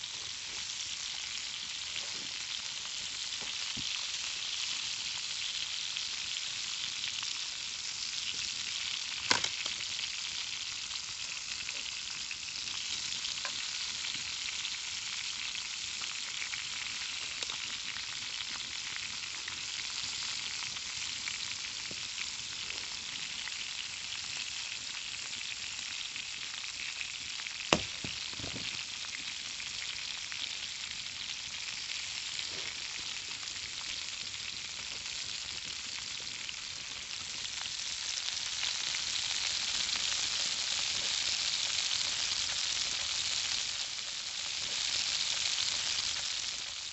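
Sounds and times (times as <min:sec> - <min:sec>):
sausages sizzling in skillet: 0:00.0 - 0:46.9.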